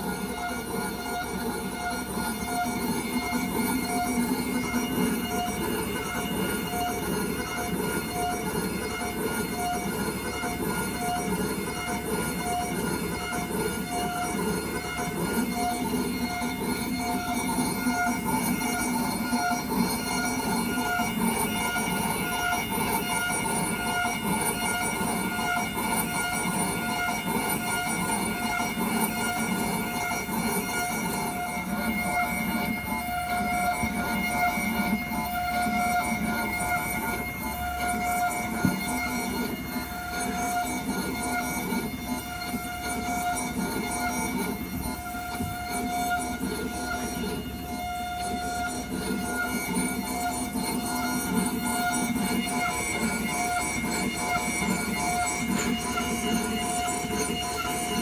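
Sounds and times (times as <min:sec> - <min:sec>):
milling machine whine and hiss: 0:00.0 - 0:58.0.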